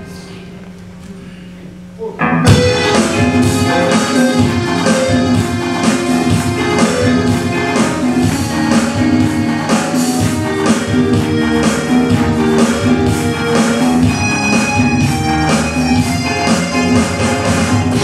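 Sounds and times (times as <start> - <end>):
band playing worship music: 2.2 - 18.0
strummed guitar: 2.2 - 18.0
steady drum beat: 2.5 - 18.0.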